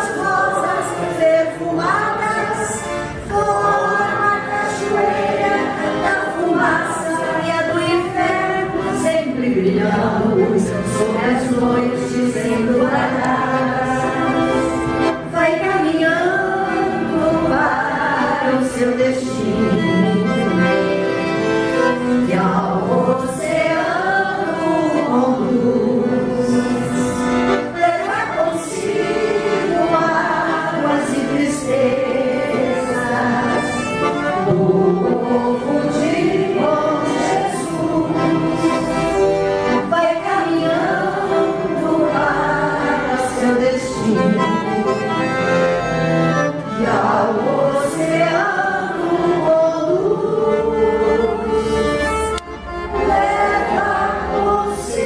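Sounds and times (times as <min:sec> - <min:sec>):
song with vocals and choir: 0:00.0 - 0:55.0.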